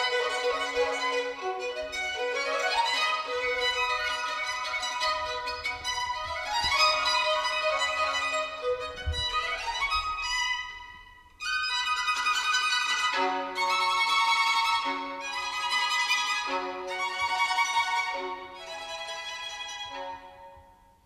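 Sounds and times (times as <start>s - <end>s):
violin music over loudspeakers: 0.0s - 20.8s.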